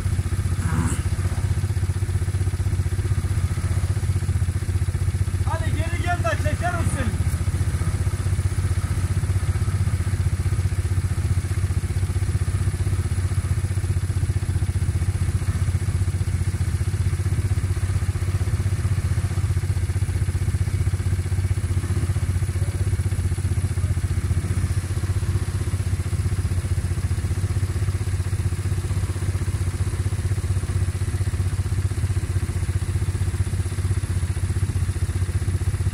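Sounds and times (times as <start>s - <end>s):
quad bike engine idling: 0.0s - 35.9s.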